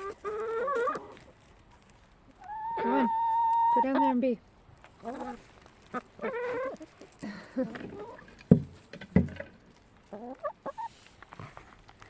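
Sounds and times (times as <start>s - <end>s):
hens clucking: 0.0s - 11.3s.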